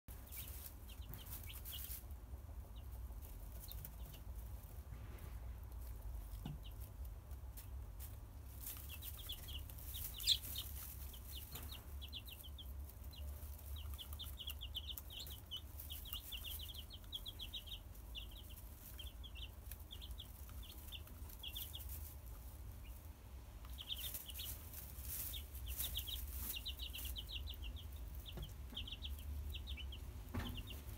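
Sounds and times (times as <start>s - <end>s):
chicks peeping: 0.1s - 30.9s.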